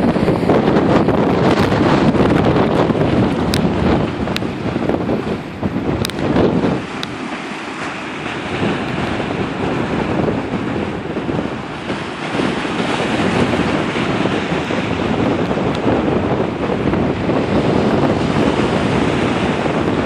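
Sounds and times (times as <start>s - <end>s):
waves breaking against pier: 0.0s - 20.0s
wind buffeting microphone: 0.0s - 20.0s.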